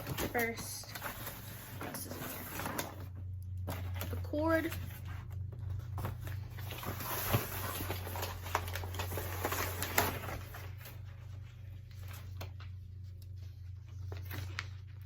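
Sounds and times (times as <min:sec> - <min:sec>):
plastic packaging rustling: 0:00.0 - 0:13.1.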